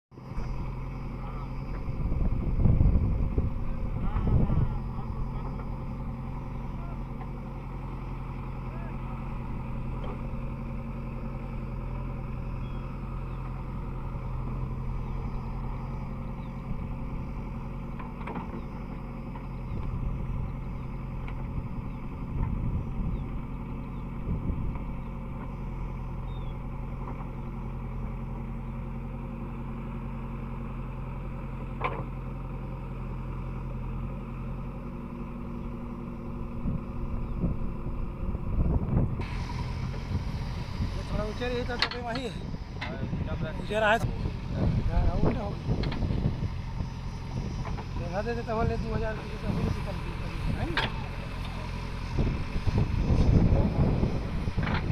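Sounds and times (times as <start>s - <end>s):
diesel engine running: 0.1s - 54.9s.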